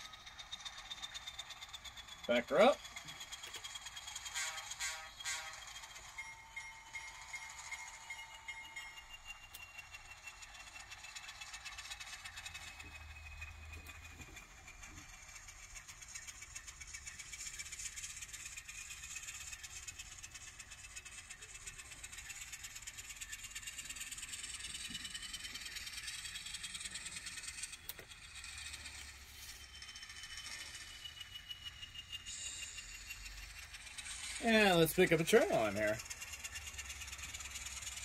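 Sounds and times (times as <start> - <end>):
diesel engine sound from small speaker: 0.0 - 6.0, 9.1 - 38.0.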